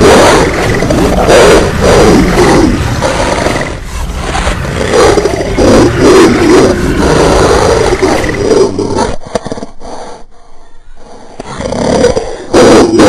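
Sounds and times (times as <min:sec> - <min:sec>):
monster roar: 0:00.0 - 0:09.2, 0:11.4 - 0:13.0.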